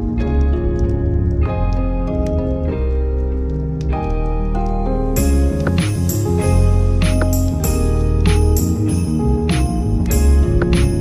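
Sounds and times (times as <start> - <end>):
christmas-style instrumental music: 0.0 - 11.0.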